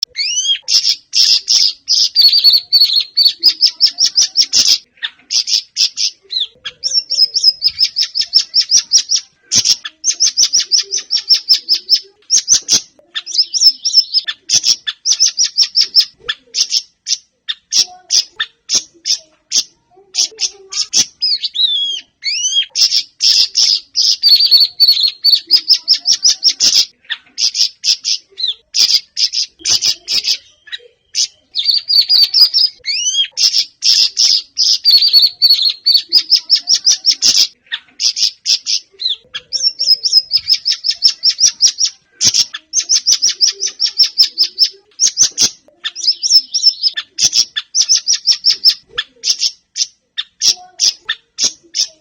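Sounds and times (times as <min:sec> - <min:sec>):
songbird chirps and trills: 0:00.0 - 0:52.0.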